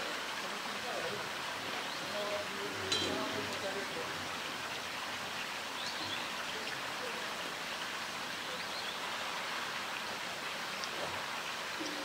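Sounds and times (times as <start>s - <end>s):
water pouring into a pool: 0.0s - 12.0s.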